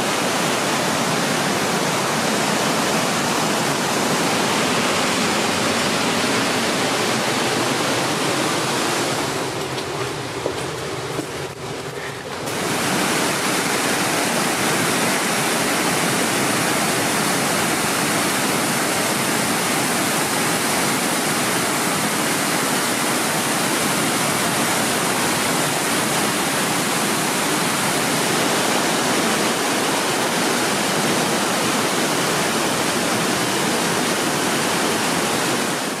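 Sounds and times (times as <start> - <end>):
waterfall rushing onto rocks: 0.0 - 36.0.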